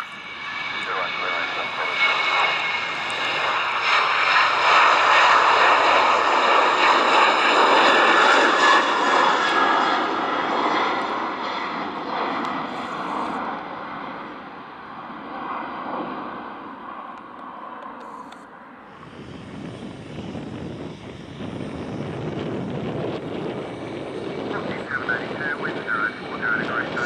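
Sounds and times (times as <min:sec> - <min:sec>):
jet engines taking off: 0:00.0 - 0:27.0.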